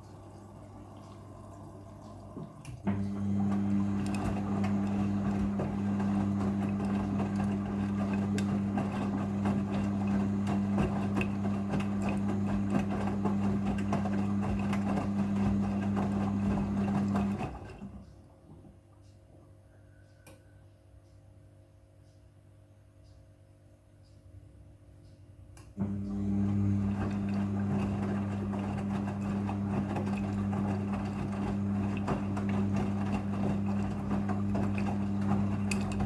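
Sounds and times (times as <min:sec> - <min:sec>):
washing machine hum: 0:00.0 - 0:21.0, 0:25.4 - 0:36.0.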